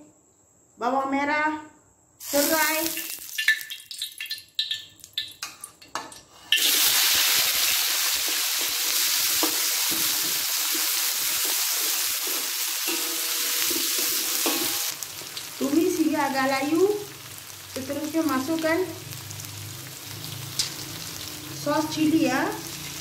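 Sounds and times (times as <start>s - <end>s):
food sizzling in hot oil: 2.2s - 23.0s.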